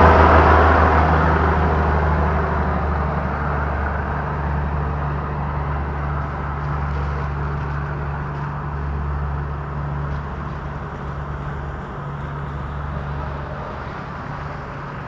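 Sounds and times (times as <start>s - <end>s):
cars passing on wet road: 0.0s - 15.0s
low engine hum: 0.0s - 15.0s
van passing close by: 0.0s - 15.0s.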